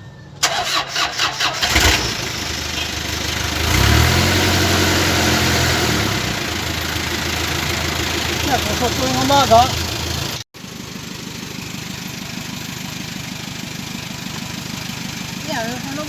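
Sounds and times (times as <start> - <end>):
car engine cranking: 0.4 - 16.0
car engine revving and idling: 1.4 - 16.0.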